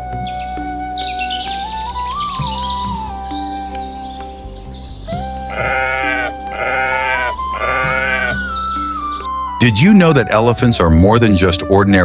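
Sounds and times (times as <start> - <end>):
slow melodic background music: 0.0 - 12.0.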